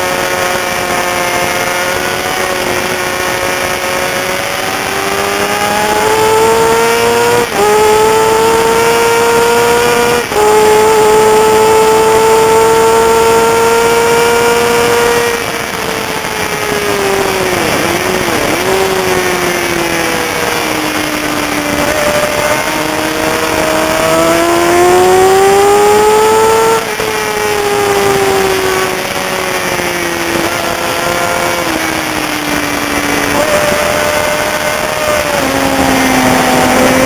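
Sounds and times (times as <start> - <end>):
sport-bike engine revving: 0.0 - 37.0.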